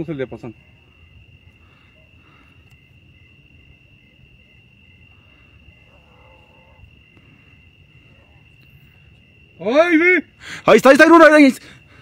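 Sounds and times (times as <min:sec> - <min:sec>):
faint crickets chirping: 0:00.0 - 0:12.0.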